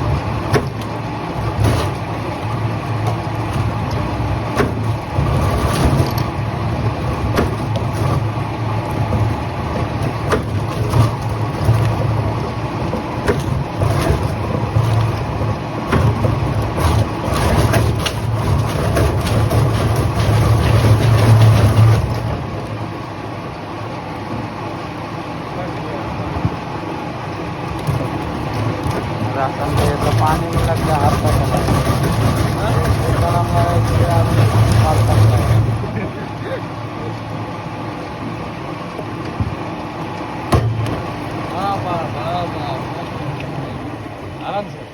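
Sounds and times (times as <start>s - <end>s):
heavy machinery droning: 0.0s - 39.6s.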